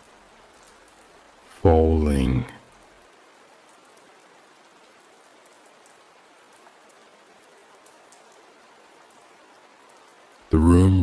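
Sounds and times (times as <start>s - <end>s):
raindrops ticking: 0.0s - 11.0s
soft steady rain: 0.0s - 11.0s.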